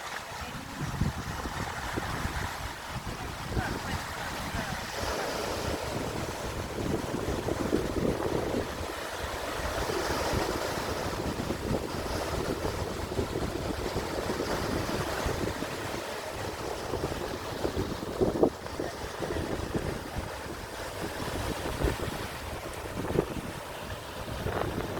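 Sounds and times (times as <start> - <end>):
sea waves washing: 0.0 - 24.9
wind buffeting microphone: 0.0 - 24.9.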